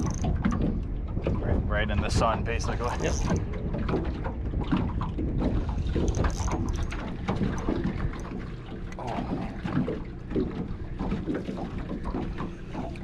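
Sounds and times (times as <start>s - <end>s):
short knocks and splashes: 0.0s - 13.0s
small waves slapping hull: 0.0s - 13.0s
wind buffeting microphone: 0.0s - 13.0s.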